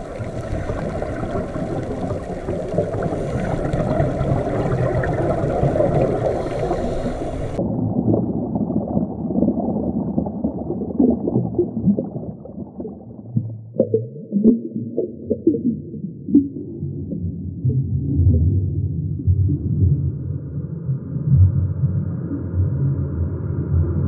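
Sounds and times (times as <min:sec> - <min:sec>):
underwater gurgling and rumbling: 0:00.0 - 0:24.0.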